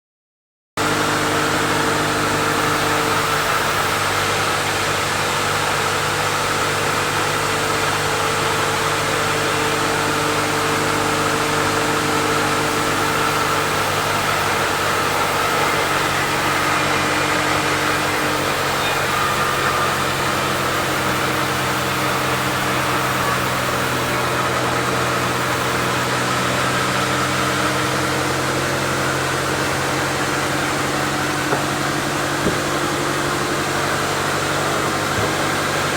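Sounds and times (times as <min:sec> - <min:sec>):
sawmill machinery motor hum: 0:00.8 - 0:35.9.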